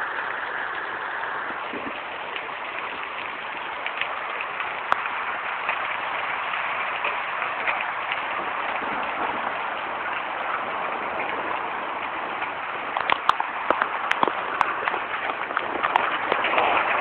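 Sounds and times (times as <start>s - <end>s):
hail pattering: 0.0s - 17.0s
hailstones cracking on hard surface: 1.4s - 17.0s.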